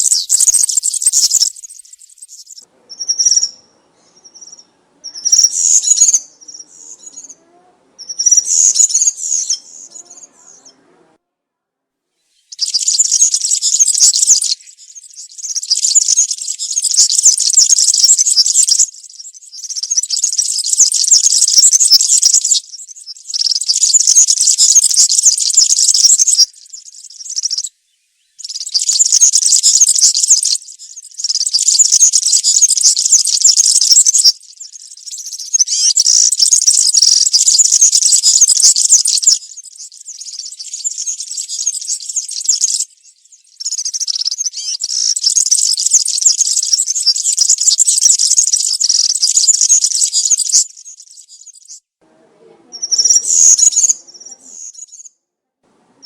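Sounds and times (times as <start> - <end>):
finch singing high jingling song: 0.0 - 7.4, 8.0 - 10.8, 12.5 - 27.7, 28.3 - 51.8, 52.8 - 55.1.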